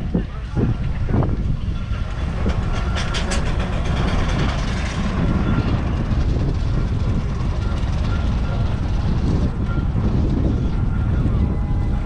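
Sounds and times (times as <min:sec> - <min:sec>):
steam roller rumbling: 0:00.0 - 0:12.0.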